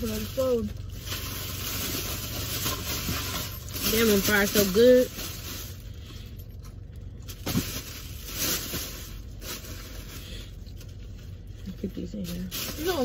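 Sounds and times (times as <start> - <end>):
plastic bag rustling: 0.0 - 6.0, 7.2 - 13.0
low hum inside a car: 0.0 - 13.0.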